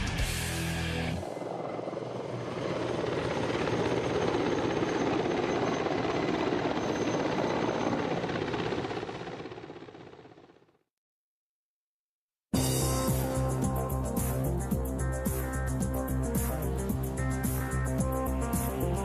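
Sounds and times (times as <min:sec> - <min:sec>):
helicopter rotor and turbine: 0:00.1 - 0:10.9, 0:12.6 - 0:19.0.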